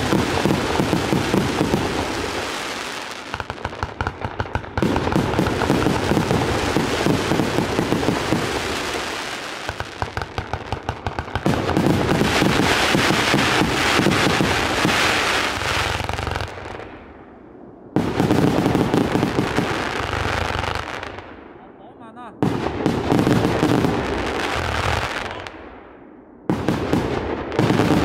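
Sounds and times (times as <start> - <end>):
crackling firework stars: 0.0 - 28.0.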